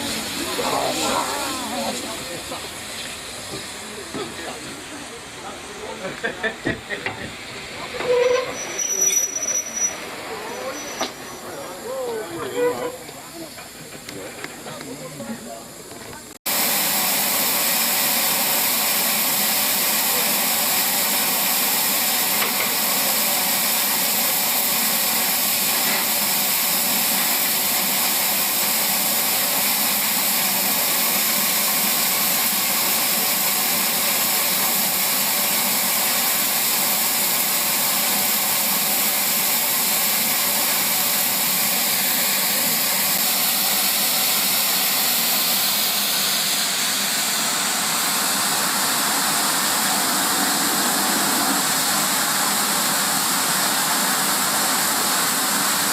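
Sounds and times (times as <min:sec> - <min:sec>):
steam locomotive hissing steam: 0:00.0 - 0:55.9.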